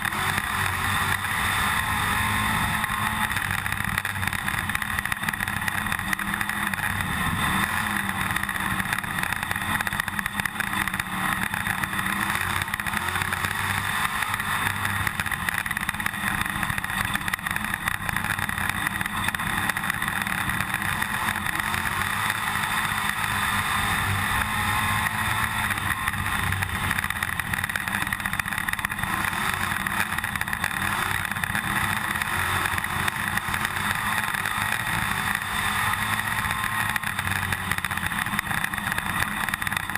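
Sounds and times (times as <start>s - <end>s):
race car engine at full speed: 0.0s - 39.9s.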